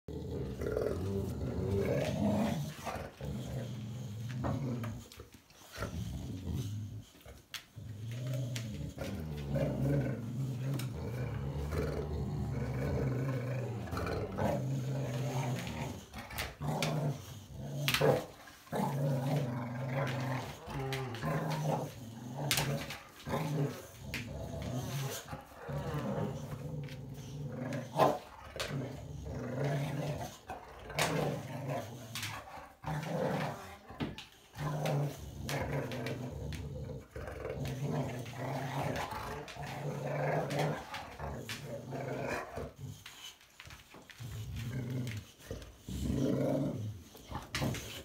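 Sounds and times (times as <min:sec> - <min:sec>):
dogs growling: 0:00.0 - 0:48.0.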